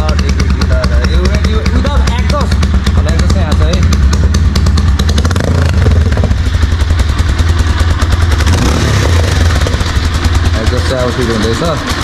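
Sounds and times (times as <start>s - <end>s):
motorcycle engine idling loudly: 0.0s - 12.0s.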